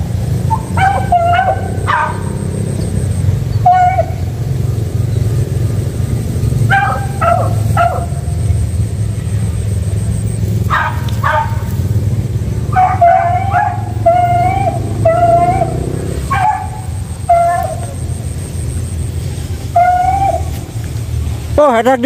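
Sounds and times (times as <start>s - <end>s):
hounds baying and yelping: 0.0s - 21.4s.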